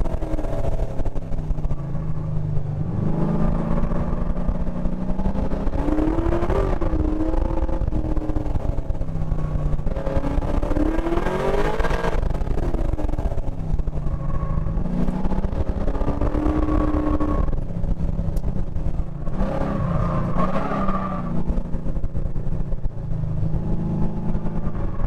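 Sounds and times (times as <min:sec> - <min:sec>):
car engine revving under load: 0:00.0 - 0:25.0.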